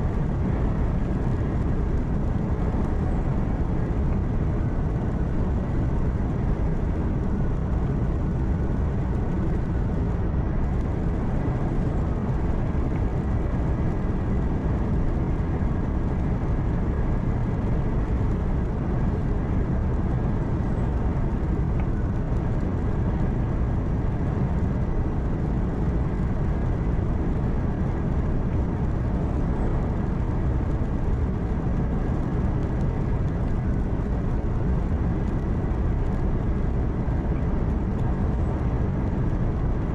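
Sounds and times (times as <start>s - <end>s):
truck engine hum: 0.0s - 39.8s
road and tyre noise: 0.0s - 39.9s.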